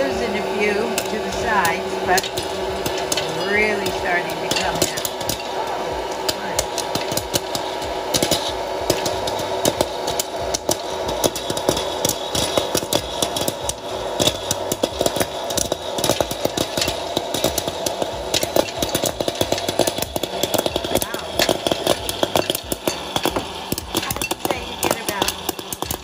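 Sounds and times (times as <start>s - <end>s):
popcorn kernels popping: 0.0s - 26.0s
popcorn popper fan blowing: 0.0s - 26.0s.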